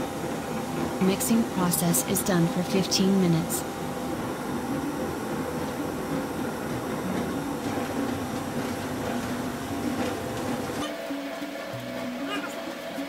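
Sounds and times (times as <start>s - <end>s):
dough mixer motor humming: 0.0s - 13.0s.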